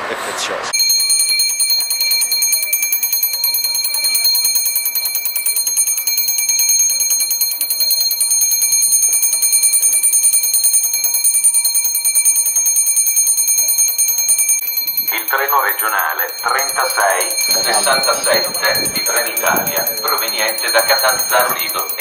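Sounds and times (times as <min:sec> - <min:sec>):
electric bell ringing: 0:00.8 - 0:22.0.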